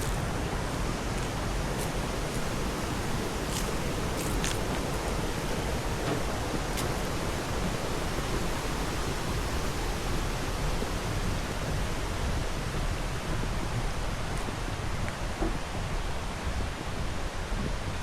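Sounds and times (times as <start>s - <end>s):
waterfall rushing: 0.0s - 16.3s.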